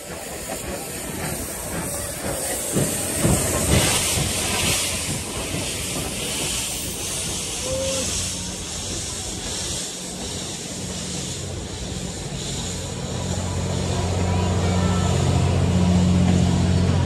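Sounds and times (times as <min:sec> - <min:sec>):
loud steam hiss: 0:00.0 - 0:17.0
steam locomotive exhaust chuffs: 0:00.0 - 0:17.0.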